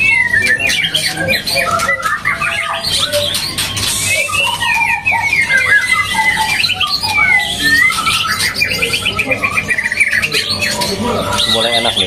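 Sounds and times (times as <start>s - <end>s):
birds singing whistles and trills: 0.0s - 12.0s.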